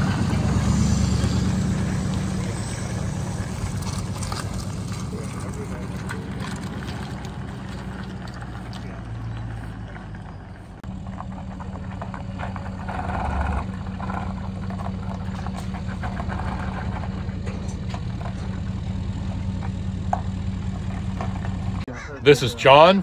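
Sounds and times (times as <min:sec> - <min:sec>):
pickup truck engine idling: 0:00.0 - 0:22.9.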